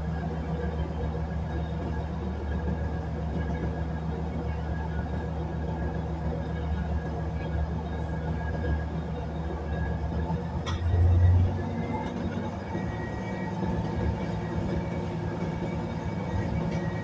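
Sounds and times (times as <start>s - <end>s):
railbus engine drone: 0.0s - 17.0s.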